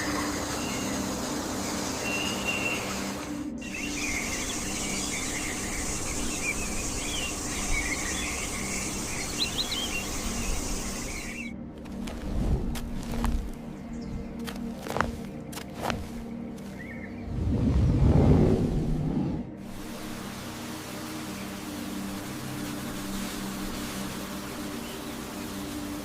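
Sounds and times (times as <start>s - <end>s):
birds chirping and warbling: 0.0s - 11.6s, 13.0s - 19.6s, 21.2s - 26.0s
high insect hiss: 0.0s - 14.7s, 18.5s - 26.0s.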